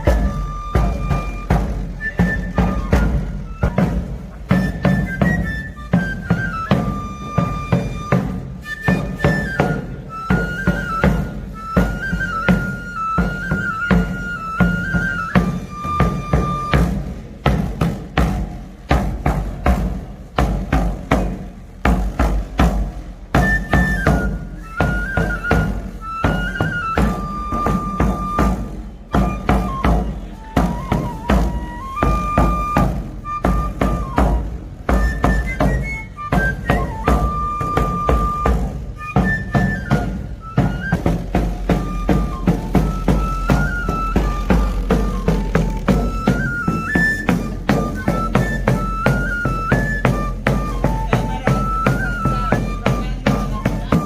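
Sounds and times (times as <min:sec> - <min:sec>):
rapid drum strokes: 0:00.0 - 0:54.0.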